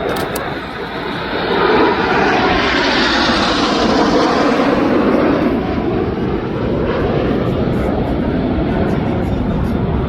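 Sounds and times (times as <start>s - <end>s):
jets flying by: 0.0s - 10.0s.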